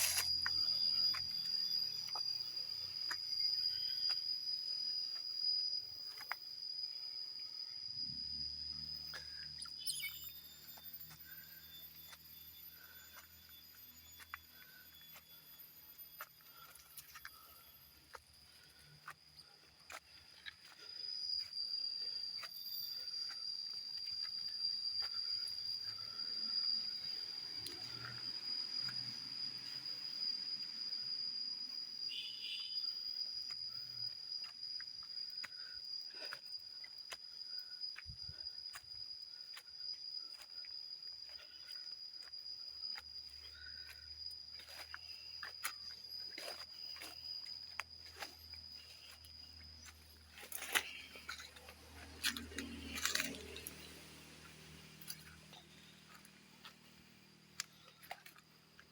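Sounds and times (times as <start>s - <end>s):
high-pitched insect drone: 0.0s - 58.9s.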